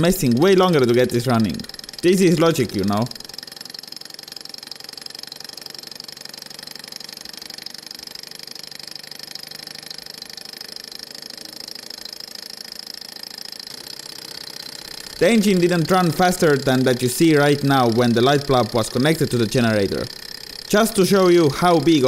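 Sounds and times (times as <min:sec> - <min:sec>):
small engine rattling and whirring: 0:00.0 - 0:22.0.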